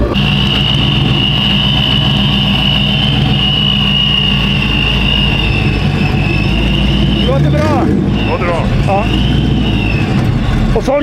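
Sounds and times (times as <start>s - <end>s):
car engine idling: 0.0s - 11.0s
high steady whine: 0.0s - 11.0s.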